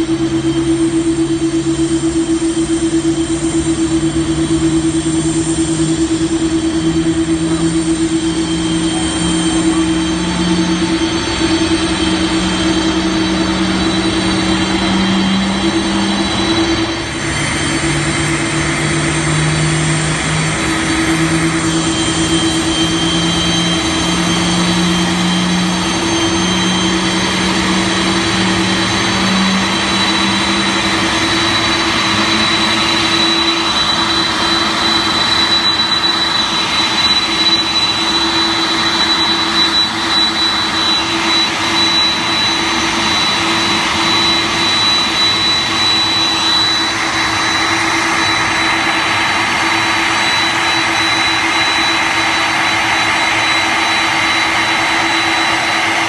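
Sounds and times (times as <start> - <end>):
high jet whine: 0.0 - 56.0
jet engines at taxi power: 0.0 - 56.0.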